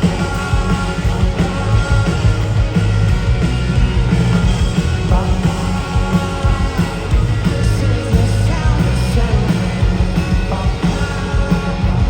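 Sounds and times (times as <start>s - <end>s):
bass guitar: 0.0s - 12.0s
drums: 0.0s - 12.0s
electric guitars: 0.0s - 12.0s.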